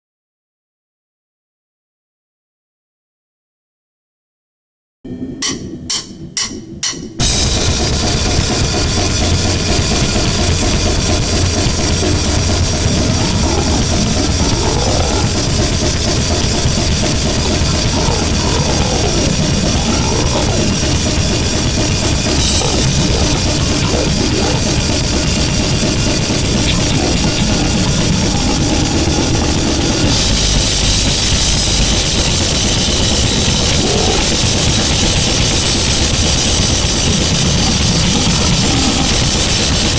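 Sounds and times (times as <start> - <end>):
wavering pitched sweeps: 5.1 - 39.9
distorted static noise: 5.9 - 39.9.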